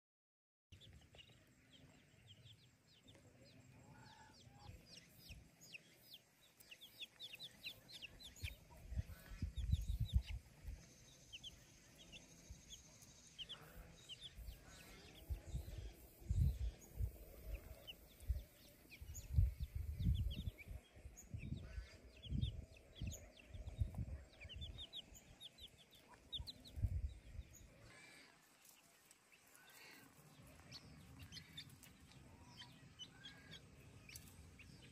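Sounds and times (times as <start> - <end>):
chicks peeping: 0.7 - 34.9.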